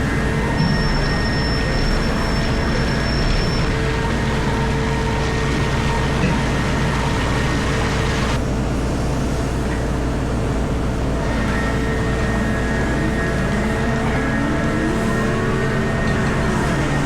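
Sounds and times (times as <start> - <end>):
constant whine: 0.0 - 17.0
loud machinery drone: 0.0 - 17.0.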